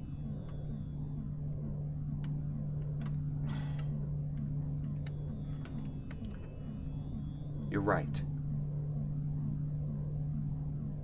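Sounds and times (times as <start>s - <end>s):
low electronic hum: 0.0s - 11.0s.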